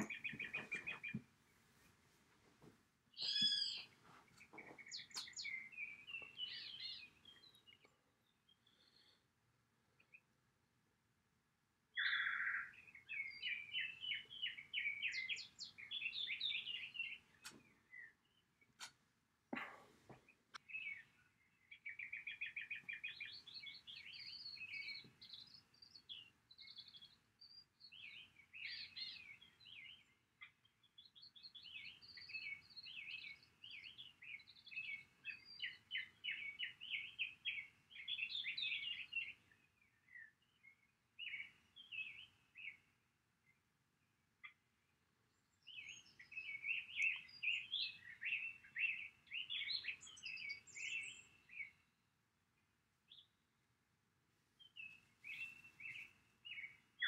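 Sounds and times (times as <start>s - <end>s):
birds chirping and trilling: 0.0s - 1.4s, 3.2s - 9.3s, 11.9s - 19.0s, 19.6s - 43.6s, 44.4s - 52.0s, 54.6s - 57.0s.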